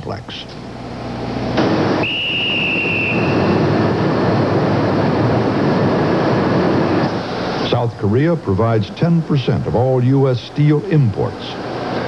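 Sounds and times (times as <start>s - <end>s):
high whine: 0.0s - 12.0s
steel mill furnace roar: 0.0s - 12.0s.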